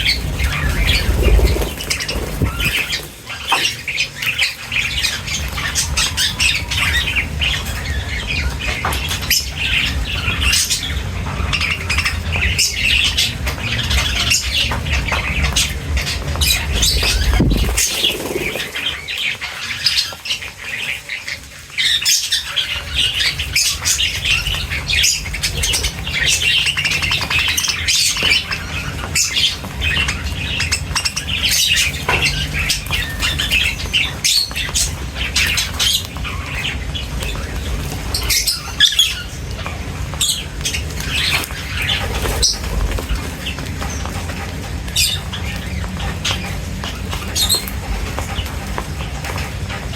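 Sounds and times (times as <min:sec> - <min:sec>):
wings fluttering: 0:00.0 - 0:07.9, 0:14.0 - 0:49.9
birds chirping and squawking: 0:00.0 - 0:49.9.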